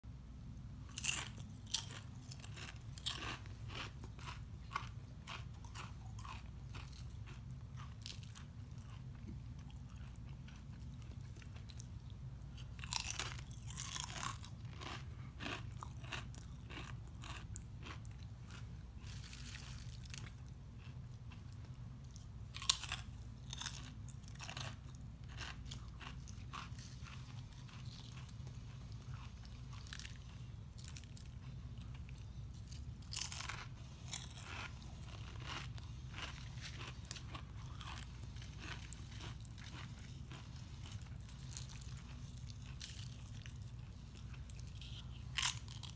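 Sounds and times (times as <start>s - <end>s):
chips crunching: 0.9s - 12.0s, 12.6s - 21.0s, 22.5s - 45.9s
chewing: 1.0s - 45.9s.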